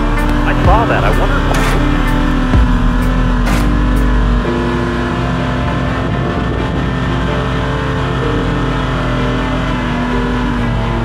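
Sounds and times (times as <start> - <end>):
background music of held chords: 0.0 - 11.0
truck engine running: 0.0 - 11.0.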